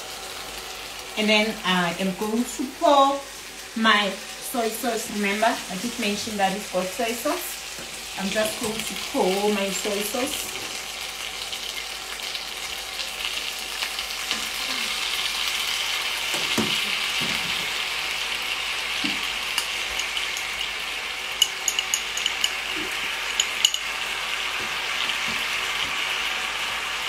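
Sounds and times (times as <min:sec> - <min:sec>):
chicken wings sizzling in pan: 0:00.0 - 0:27.0.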